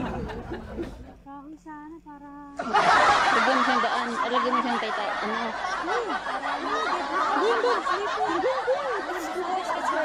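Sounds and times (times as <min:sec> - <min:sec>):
people laughing and chattering: 0:00.0 - 0:01.2, 0:02.6 - 0:10.0.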